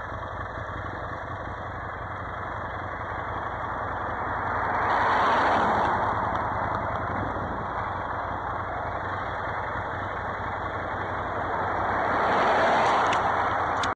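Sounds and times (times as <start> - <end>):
motorcycle engine running: 0.0 - 13.9
road noise: 0.0 - 13.9.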